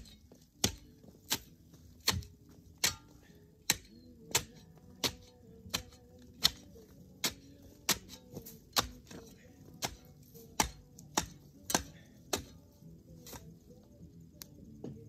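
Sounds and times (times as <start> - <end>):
tool chopping into bush and earth: 0.0 - 13.5.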